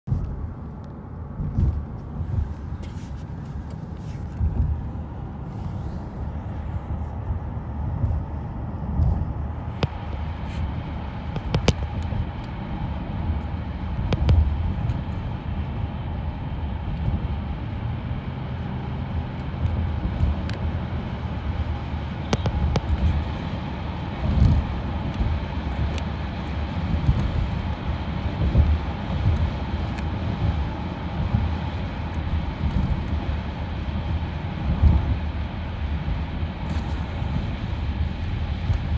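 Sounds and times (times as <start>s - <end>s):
vehicle rumble: 0.0s - 38.9s.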